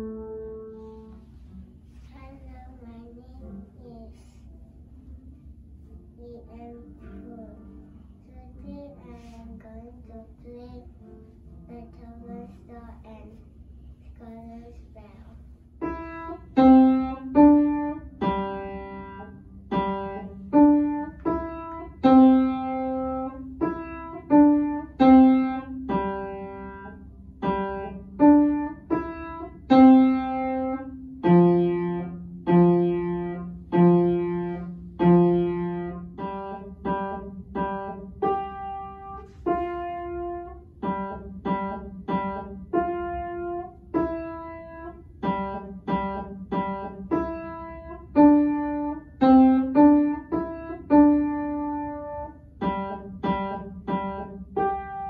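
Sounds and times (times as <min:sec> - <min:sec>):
beginner playing piano: 0:00.0 - 0:04.7, 0:14.9 - 0:55.0.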